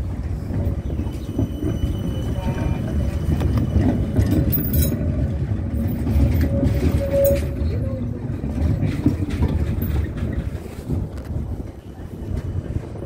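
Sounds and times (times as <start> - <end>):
tram rumbling past: 0.0 - 13.0
tram whine: 0.0 - 13.0.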